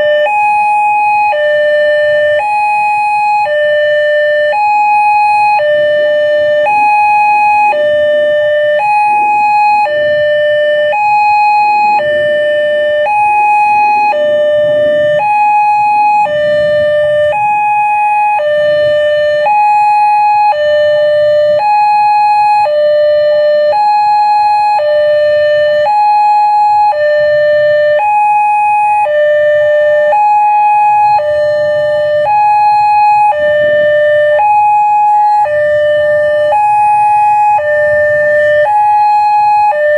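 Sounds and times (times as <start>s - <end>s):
level crossing two-tone alarm: 0.0s - 39.9s
road traffic rumble: 0.0s - 39.9s.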